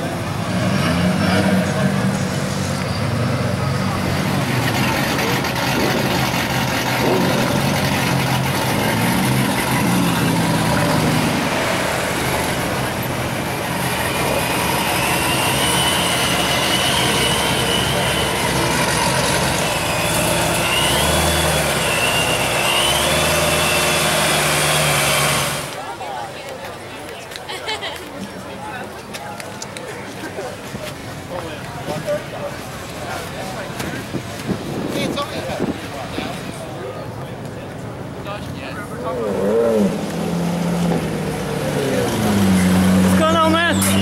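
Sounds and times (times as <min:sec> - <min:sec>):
car engines at low revs: 0:00.0 - 0:27.4, 0:28.0 - 0:44.0.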